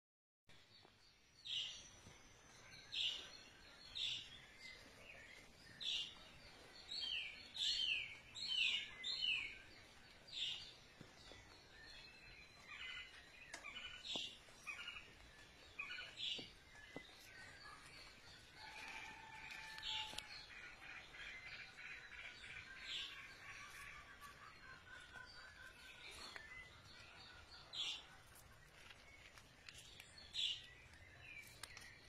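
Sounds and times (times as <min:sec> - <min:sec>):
faint outdoor background noise: 0:00.5 - 0:32.0.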